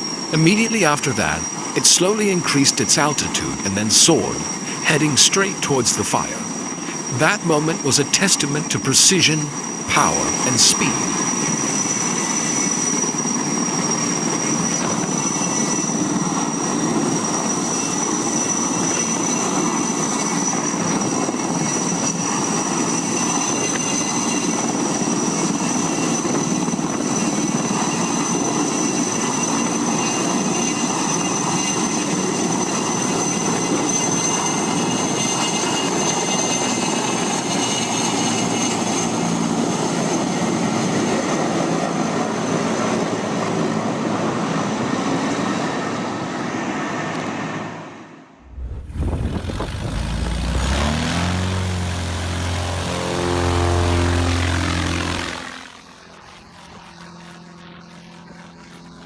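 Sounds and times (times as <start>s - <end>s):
aircraft engine whine: 0.0s - 59.0s.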